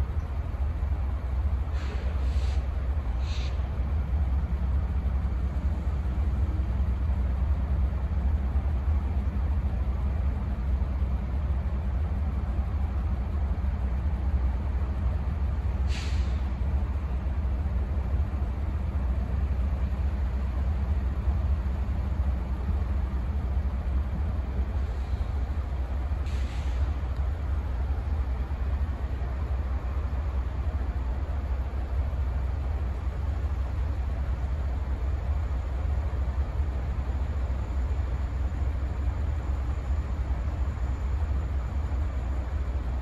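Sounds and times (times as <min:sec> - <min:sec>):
low engine rumble: 0:00.0 - 0:43.0.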